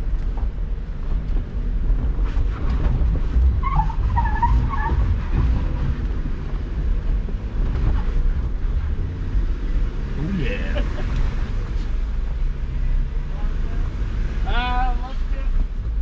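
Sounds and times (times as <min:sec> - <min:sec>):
engine rumbling under load: 0:00.0 - 0:16.0.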